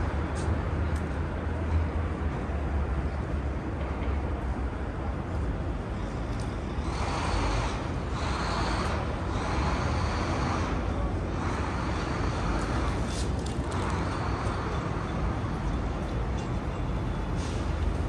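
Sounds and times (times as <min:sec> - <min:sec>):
low rumble of engines: 0:00.0 - 0:18.0
vehicles passing with hiss: 0:00.0 - 0:18.0.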